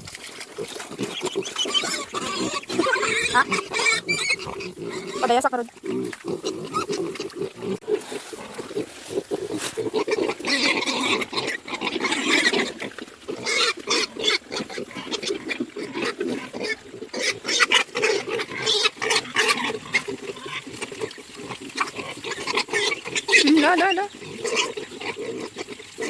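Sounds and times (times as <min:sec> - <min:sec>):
piglets grunting and squealing: 0:00.0 - 0:26.0.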